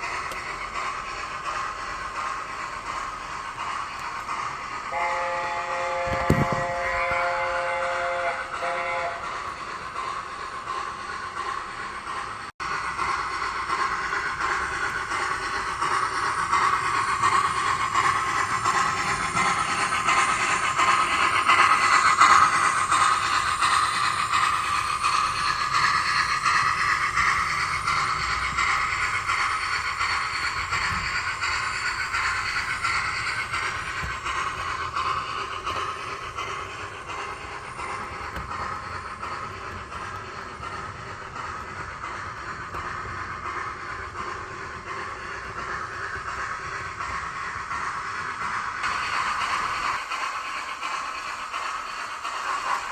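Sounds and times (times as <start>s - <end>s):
model train wheels rattling: 5.9s - 8.6s, 9.2s - 52.9s.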